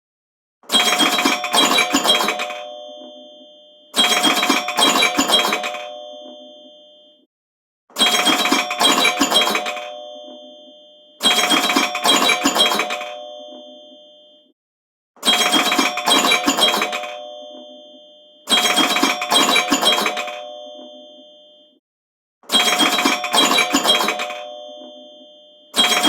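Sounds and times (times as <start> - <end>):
alarm ringtone: 0.8 - 7.3, 8.0 - 14.5, 15.3 - 21.8, 22.5 - 26.0.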